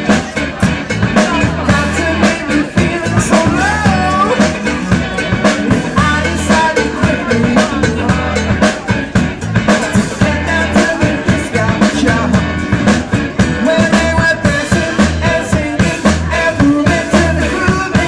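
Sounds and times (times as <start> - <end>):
live band playing upbeat music: 0.0 - 18.0
repeating bass line: 0.0 - 18.0
steady drum beat: 0.0 - 18.0.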